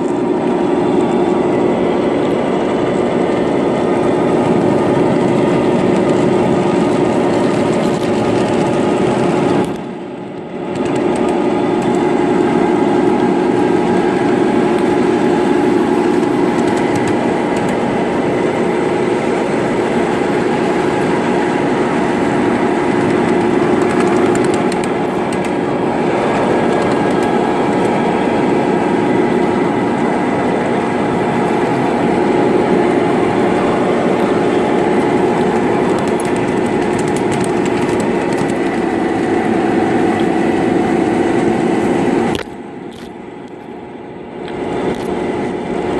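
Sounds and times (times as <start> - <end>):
rail noise: 0.0 - 45.9
small locomotive engine running: 0.0 - 45.9.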